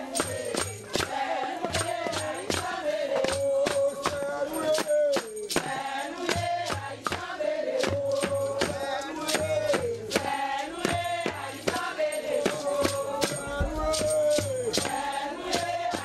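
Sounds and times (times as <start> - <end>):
group chanting: 0.0 - 16.0
hand percussion strikes: 0.0 - 16.0.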